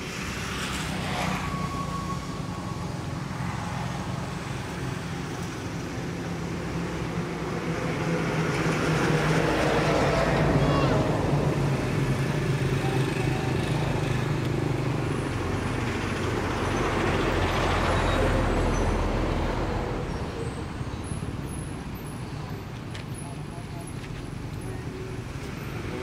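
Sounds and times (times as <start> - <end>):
road noise: 0.0 - 26.0
vehicle engine hum: 0.0 - 26.0.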